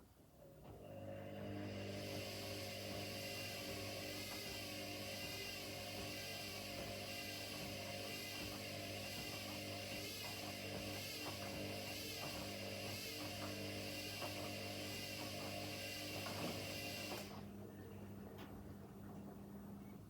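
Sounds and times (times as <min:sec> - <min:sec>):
washing machine motor hum: 0:00.0 - 0:20.0
washing machine hiss: 0:01.2 - 0:17.6.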